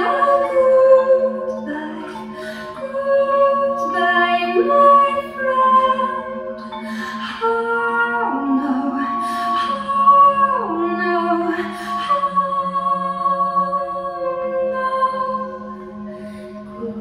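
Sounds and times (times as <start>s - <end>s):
woman singing long held notes: 0.0s - 17.0s.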